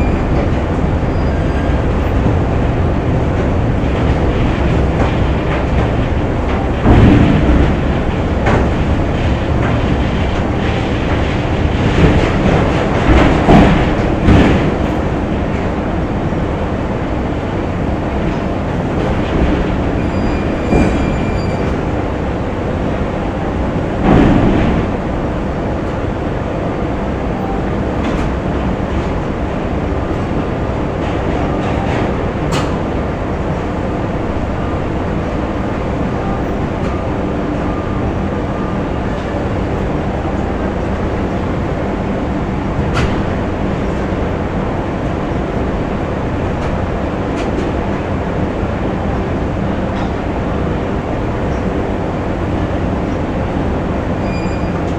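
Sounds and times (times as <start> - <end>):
machine rumble and hum: 0.0 - 54.9.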